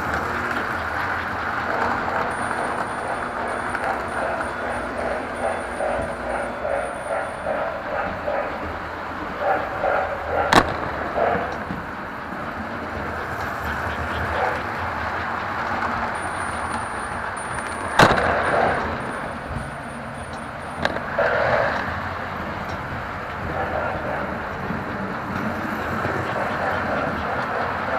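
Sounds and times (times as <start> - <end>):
toy train motors whirring: 0.0 - 27.9.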